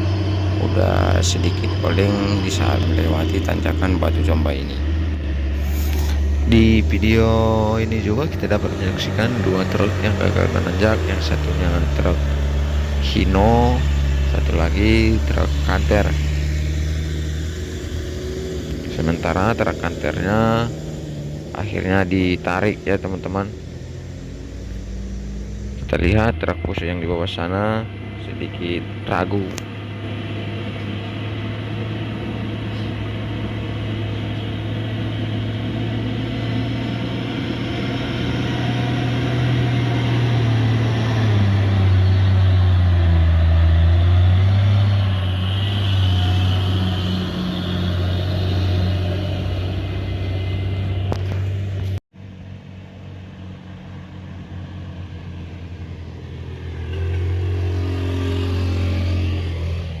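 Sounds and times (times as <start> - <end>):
truck diesel engine drone: 0.0 - 60.0.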